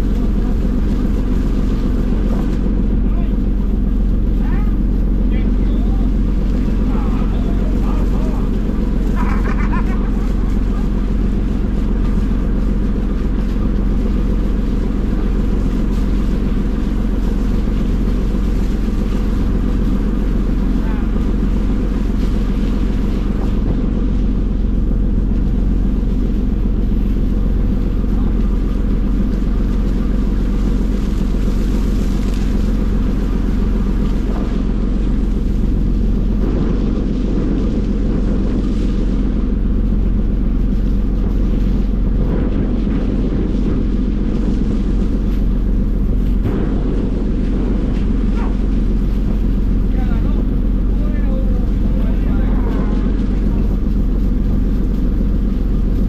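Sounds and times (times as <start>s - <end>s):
boat engine droning: 0.0s - 56.0s
water washing: 0.0s - 56.0s.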